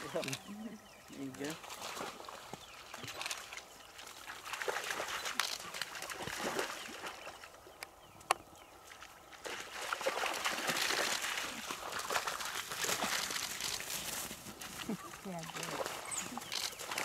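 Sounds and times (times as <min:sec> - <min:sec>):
animals splashing through muddy water: 0:00.0 - 0:07.7, 0:08.6 - 0:17.0.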